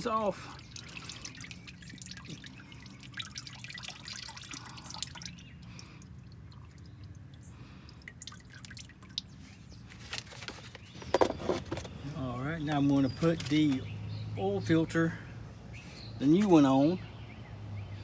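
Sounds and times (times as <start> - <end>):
oil dripping: 0.0 - 15.2.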